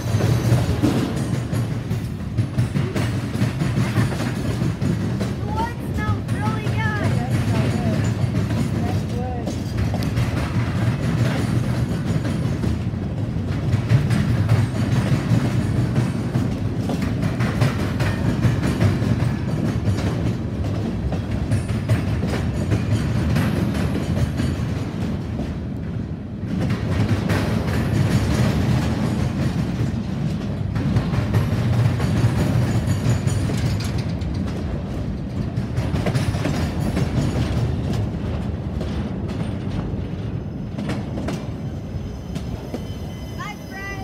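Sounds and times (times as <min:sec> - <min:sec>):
train cars clanking: 0:00.0 - 0:44.0
train wheels rumbling on rail: 0:00.0 - 0:44.0.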